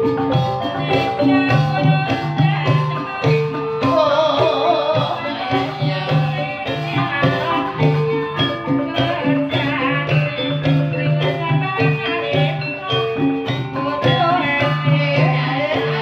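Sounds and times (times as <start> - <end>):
percussion ensemble playing: 0.0 - 16.0
wavering high melody: 0.0 - 16.0.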